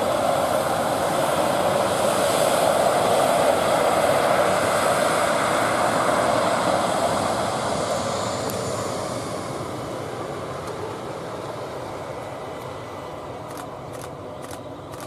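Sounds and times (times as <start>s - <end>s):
jet airliner roar: 0.0s - 15.0s.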